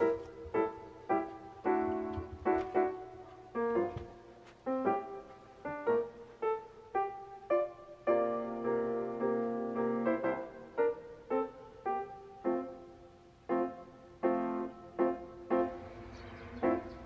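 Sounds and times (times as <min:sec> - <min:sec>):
light keyboard tune: 0:00.0 - 0:17.0.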